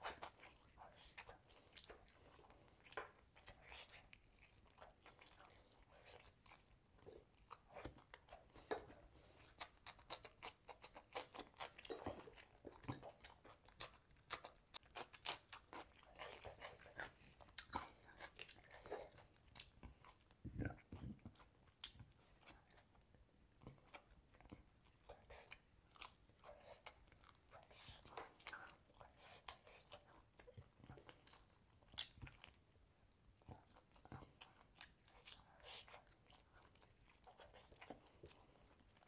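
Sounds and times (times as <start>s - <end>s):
person chewing crunchy food: 0.0s - 39.0s.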